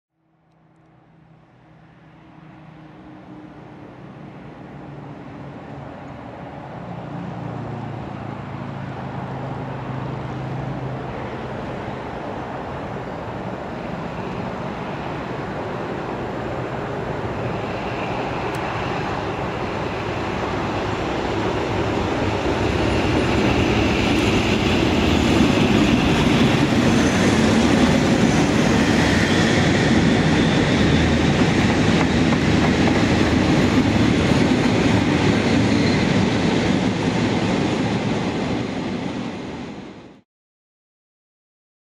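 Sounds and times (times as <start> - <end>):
diesel locomotives passing: 0.2 - 40.2.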